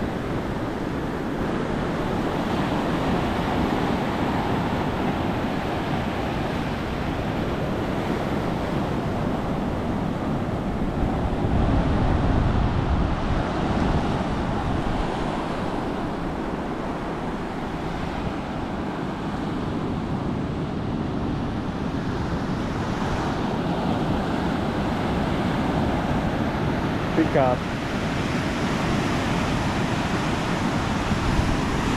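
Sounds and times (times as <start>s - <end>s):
wind noise on microphone: 0.0s - 27.0s, 27.8s - 31.9s.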